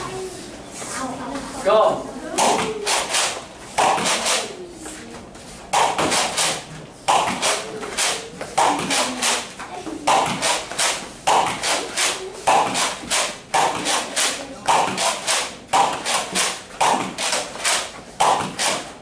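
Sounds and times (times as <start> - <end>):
balls striking and bouncing: 2.4 - 4.5, 5.7 - 19.0.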